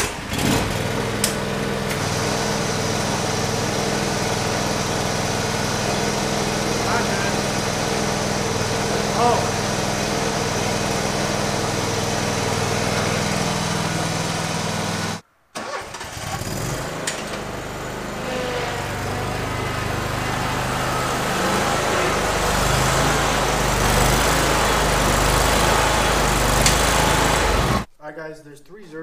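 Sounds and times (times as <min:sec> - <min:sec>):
lawn tractor engine idling: 0:00.0 - 0:27.9
mower engine running: 0:00.0 - 0:27.9.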